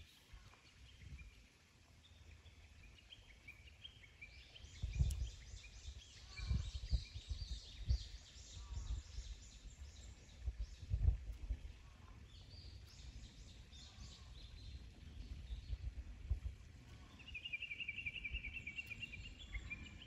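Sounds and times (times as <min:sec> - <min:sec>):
birds singing: 0:02.1 - 0:20.0.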